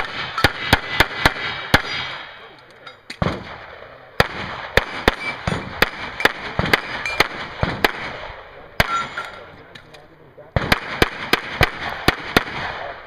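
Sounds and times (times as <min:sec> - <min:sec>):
pistol shots: 0:00.0 - 0:02.4, 0:03.1 - 0:09.5, 0:10.6 - 0:13.0.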